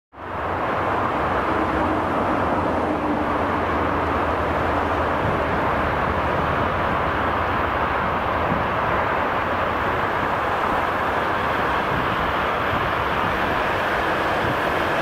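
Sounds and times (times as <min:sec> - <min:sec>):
electric train rumbling: 0:00.1 - 0:15.0.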